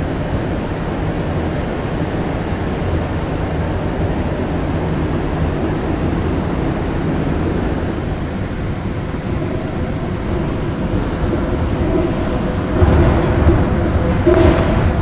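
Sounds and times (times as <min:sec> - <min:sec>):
faint steady hum: 0:00.0 - 0:15.0
train running low rumble: 0:00.0 - 0:15.0.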